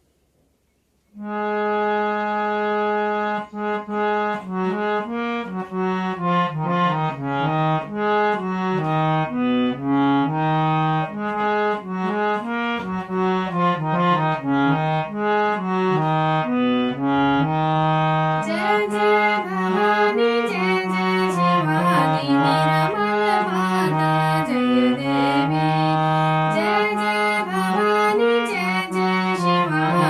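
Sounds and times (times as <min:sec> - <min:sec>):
harmonium melody: 0:01.2 - 0:30.0.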